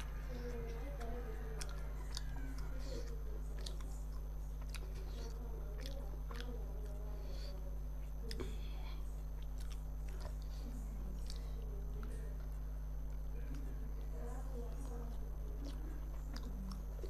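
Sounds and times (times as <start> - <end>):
person chewing with wet smacks: 0.0 - 17.0
steady low hum: 0.0 - 17.0.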